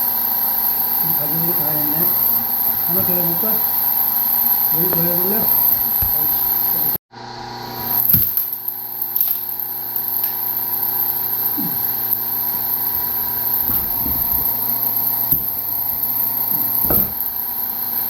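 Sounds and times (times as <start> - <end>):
electric motor and pump humming: 0.0 - 18.0.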